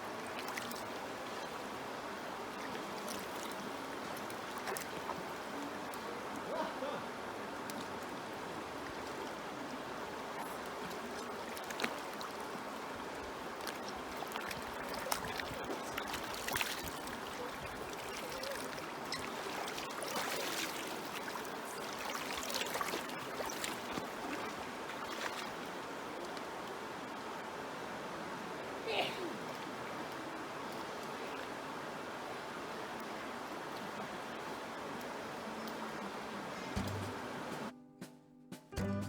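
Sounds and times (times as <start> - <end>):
small river running: 0.0 - 37.7.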